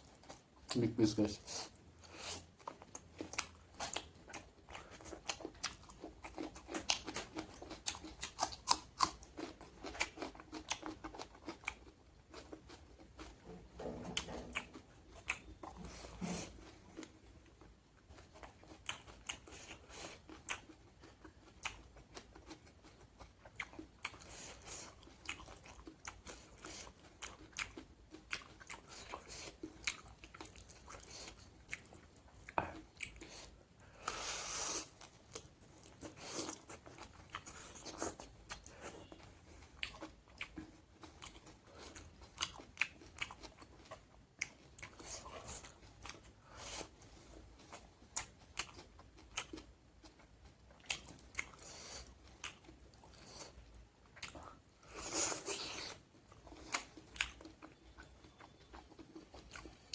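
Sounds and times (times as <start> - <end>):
person chewing and crunching: 0.0 - 59.9.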